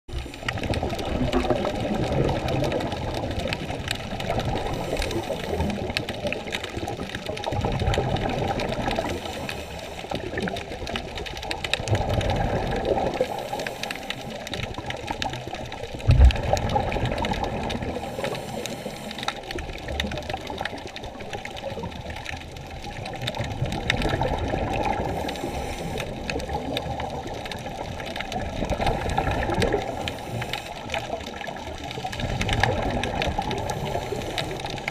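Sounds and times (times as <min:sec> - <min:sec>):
muffled underwater sloshing: 0:00.1 - 0:34.9.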